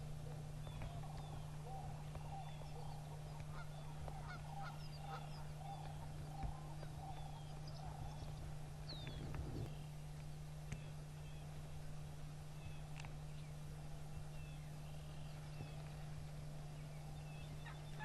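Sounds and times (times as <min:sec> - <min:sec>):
large birds calling: 0:00.0 - 0:10.0, 0:10.7 - 0:18.0
songbird chirps: 0:00.0 - 0:18.0
steady low hum: 0:00.0 - 0:18.0.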